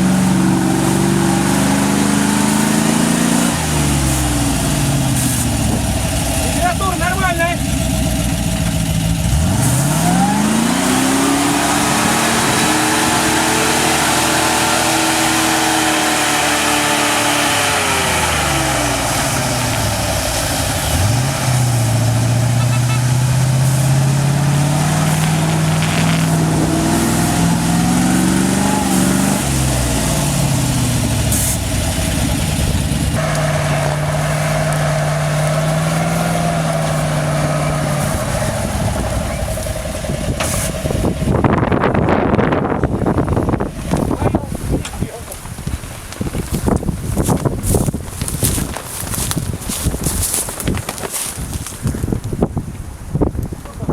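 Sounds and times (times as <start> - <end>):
truck engine revving: 0.0 - 45.6.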